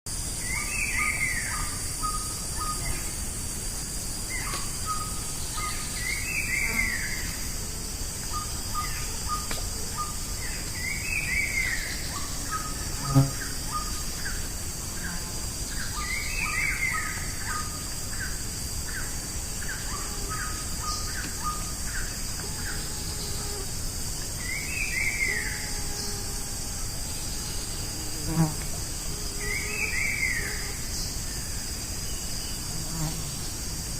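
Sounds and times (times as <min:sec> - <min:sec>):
high insect drone: 0:00.1 - 0:33.9.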